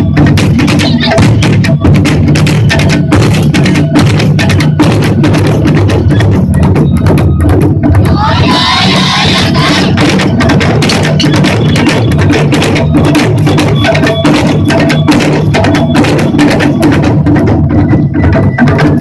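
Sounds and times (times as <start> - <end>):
drum ensemble playing fast rhythm: 0.0 - 19.0.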